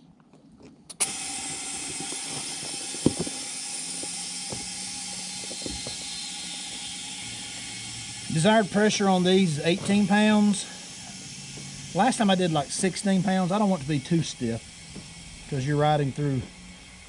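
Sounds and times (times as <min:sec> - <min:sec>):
air compressor running: 0:00.9 - 0:17.0.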